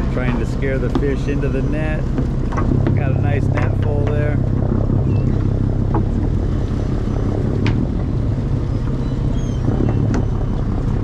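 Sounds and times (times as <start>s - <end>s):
boat engine idling: 0.0s - 11.0s
wind on microphone: 0.0s - 11.0s.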